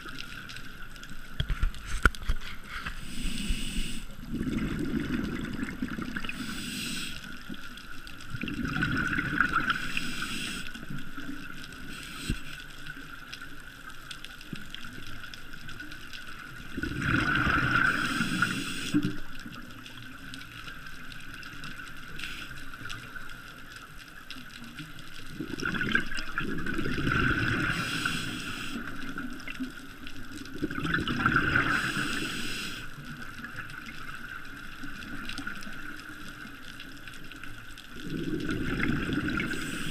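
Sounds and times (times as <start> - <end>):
exhaled bubbles gurgling underwater: 0.0 - 39.9
steady underwater hiss: 0.0 - 39.9.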